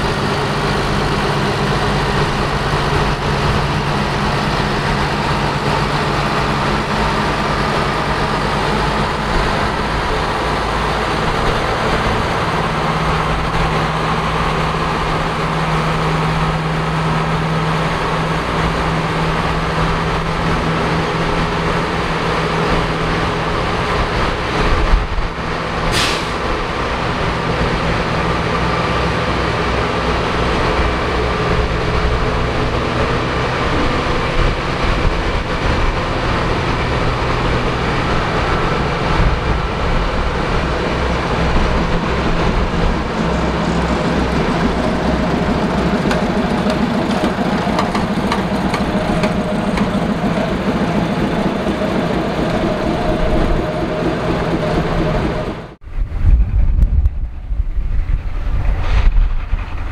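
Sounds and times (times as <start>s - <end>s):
train engine drone: 0.0s - 59.9s.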